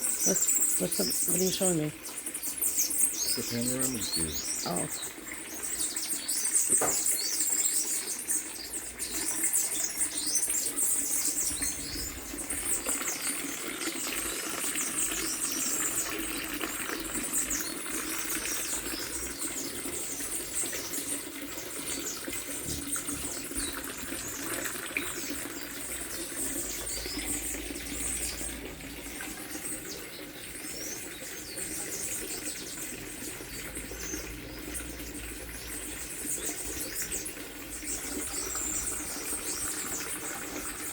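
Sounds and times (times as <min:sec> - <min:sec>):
birds chirping in chorus: 0:00.0 - 0:40.9.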